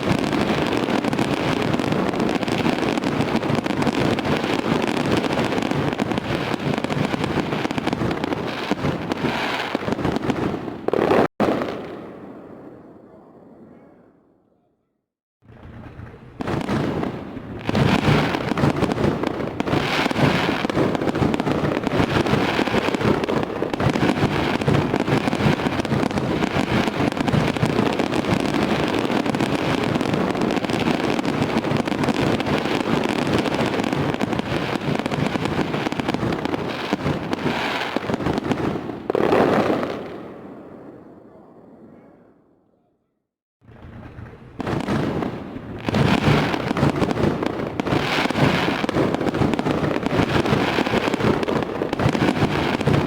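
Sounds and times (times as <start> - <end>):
fireworks bangs and crackling: 0.0 - 13.6, 15.4 - 42.0, 43.6 - 53.0.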